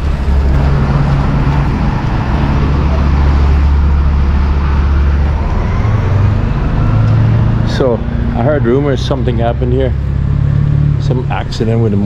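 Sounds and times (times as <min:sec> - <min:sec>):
street traffic: 0:00.0 - 0:12.0
vehicle engine droning: 0:00.0 - 0:12.0.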